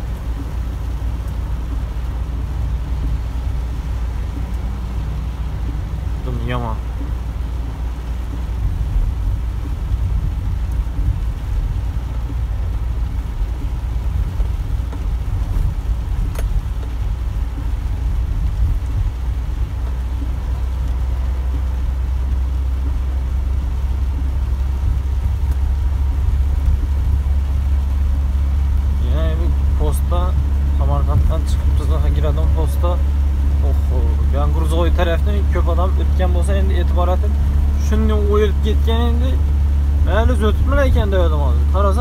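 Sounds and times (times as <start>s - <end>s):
engine and road rumble: 0.0s - 42.0s.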